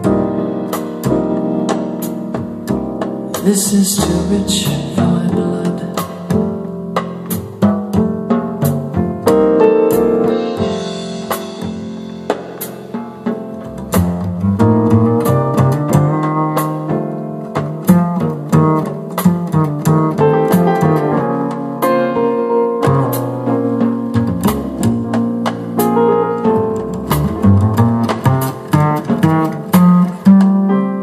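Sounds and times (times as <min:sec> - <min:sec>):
drum kit beat: 0:00.0 - 0:31.0
keyboard chords: 0:00.0 - 0:31.0.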